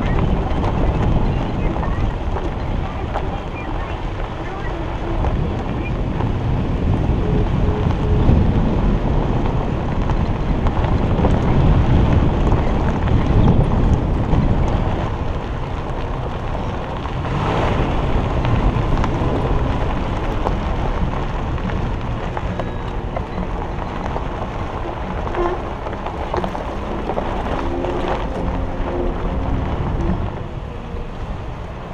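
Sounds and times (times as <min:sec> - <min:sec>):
car engine running: 0:00.0 - 0:31.9
tyres rumbling on gravel: 0:00.0 - 0:31.9
wind buffeting microphone: 0:00.0 - 0:31.9.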